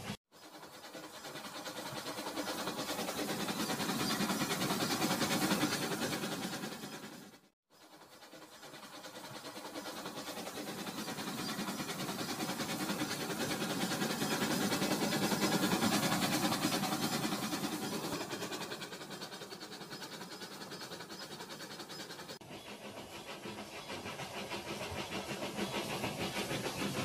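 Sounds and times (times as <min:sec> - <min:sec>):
toy train motor whirring: 0:00.4 - 0:07.2, 0:07.8 - 0:27.0
toy train wheels clattering: 0:00.4 - 0:07.2, 0:08.2 - 0:27.0.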